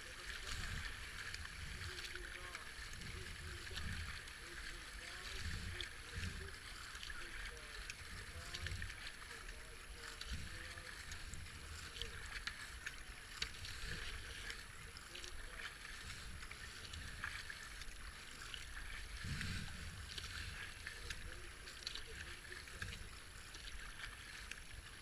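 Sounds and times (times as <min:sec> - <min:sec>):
wind rumble on microphone: 0:00.0 - 0:12.7, 0:13.4 - 0:25.0
paddle splashing in water: 0:00.0 - 0:25.0
water lapping along hull: 0:00.0 - 0:25.0.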